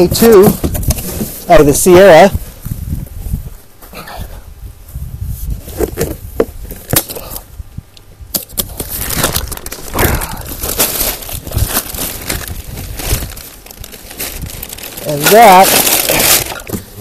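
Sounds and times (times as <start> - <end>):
rustling of bag and cardboard: 0.0 - 7.6, 8.6 - 17.0.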